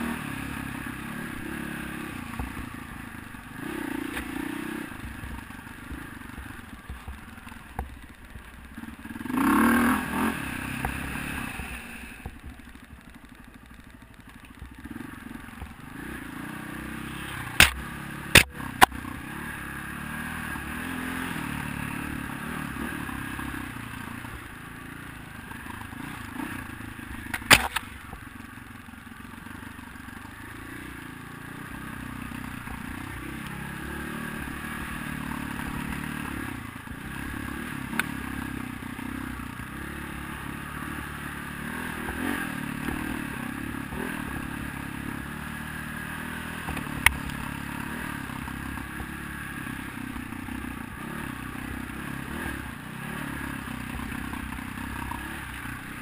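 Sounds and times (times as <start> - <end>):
dirt bike engine revving: 0.0 - 7.8, 8.6 - 12.4, 14.8 - 28.1, 30.3 - 56.0.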